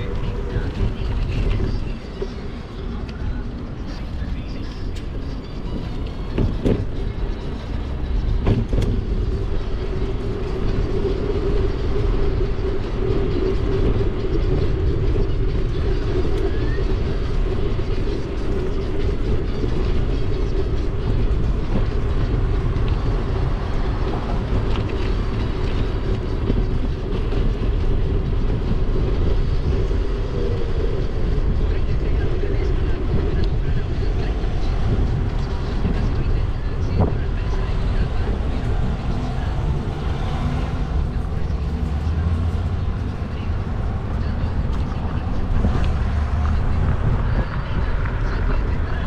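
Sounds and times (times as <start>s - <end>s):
wind and road rumble: 0.0s - 49.0s.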